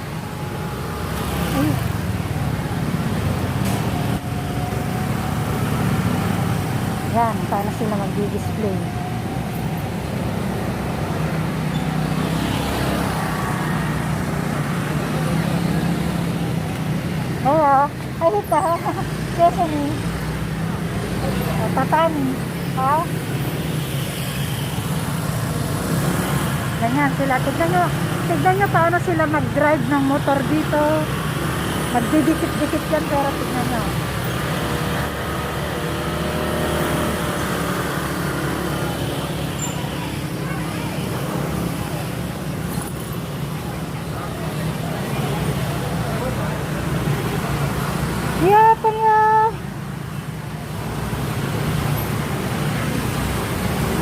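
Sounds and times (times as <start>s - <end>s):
motorbike engines humming: 0.0s - 54.0s
road traffic: 0.0s - 54.0s
street noise: 0.0s - 54.0s.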